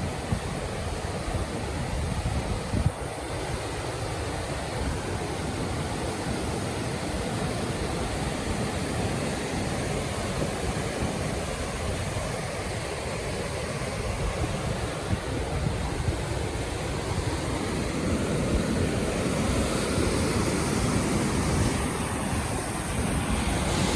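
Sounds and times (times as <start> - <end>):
waterfall rapids rushing: 0.0 - 23.9.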